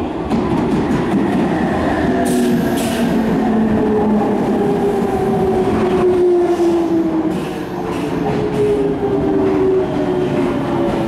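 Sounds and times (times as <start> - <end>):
train cars rumbling: 0.0 - 11.0.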